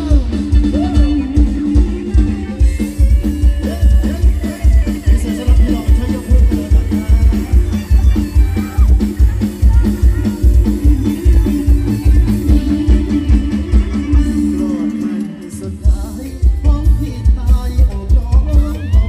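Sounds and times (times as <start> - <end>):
heavy kick drum beat: 0.0 - 19.0
live band playing dance music: 0.0 - 19.0.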